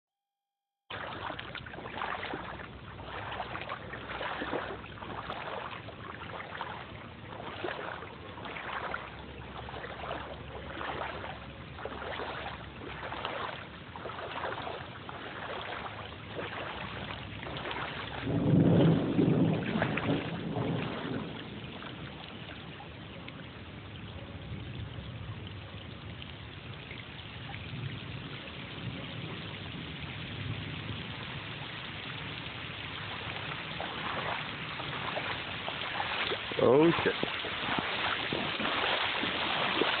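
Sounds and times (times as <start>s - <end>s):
rushing wind and water: 0.9s - 40.0s
wind buffeting microphone: 1.1s - 40.0s.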